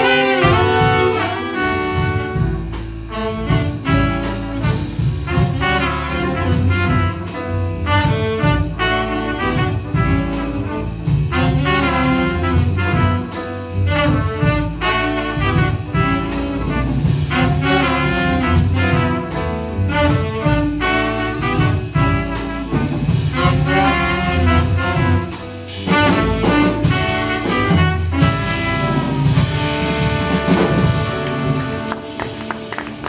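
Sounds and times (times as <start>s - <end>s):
double bass: 0.0s - 33.0s
drums: 0.0s - 33.0s
horn soloing: 0.0s - 33.0s
piano: 0.0s - 33.0s.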